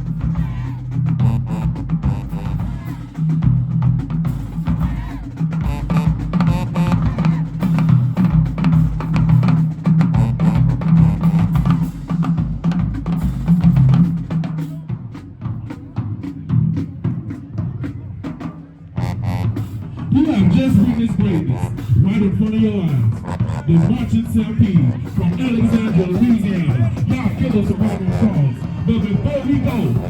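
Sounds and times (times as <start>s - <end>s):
drumline percussion cadence: 0.0s - 30.0s.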